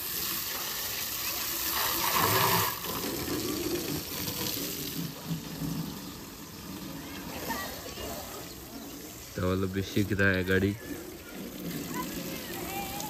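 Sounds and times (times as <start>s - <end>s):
hose water spraying on car: 0.0s - 13.0s.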